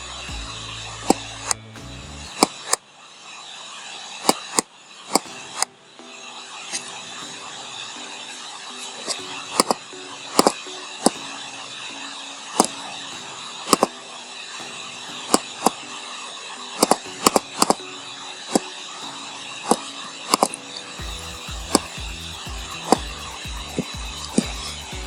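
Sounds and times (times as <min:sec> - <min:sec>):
steady recording hiss: 0:00.0 - 0:25.0.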